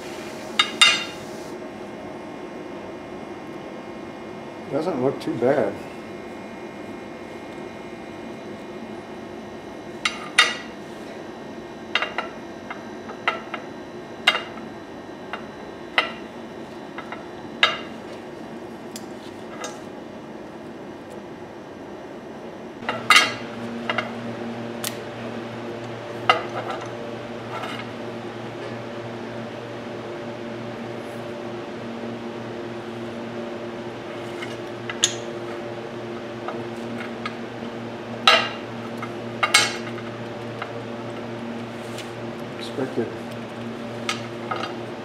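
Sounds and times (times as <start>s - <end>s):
steady background hum: 0.0s - 45.0s.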